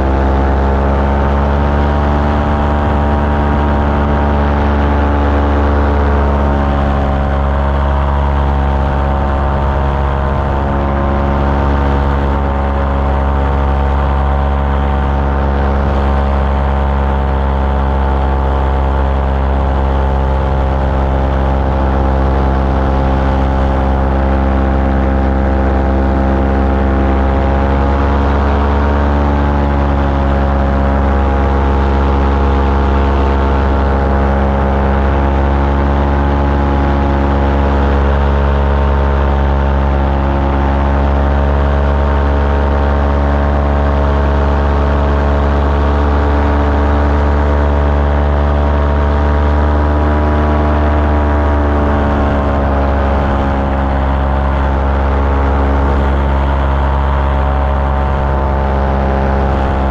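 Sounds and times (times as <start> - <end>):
small aircraft engine in flight: 0.0 - 59.9.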